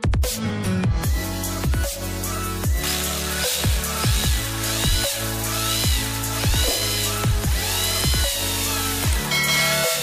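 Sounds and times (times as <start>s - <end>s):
electronic dubstep music: 1.1s - 10.0s.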